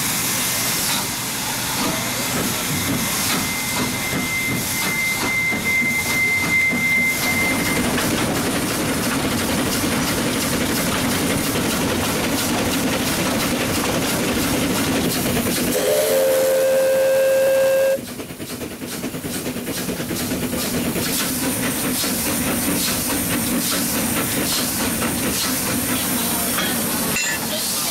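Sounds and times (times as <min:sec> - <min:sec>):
steam locomotive hissing: 0:00.0 - 0:27.9
locomotive exhaust beat: 0:00.4 - 0:27.0.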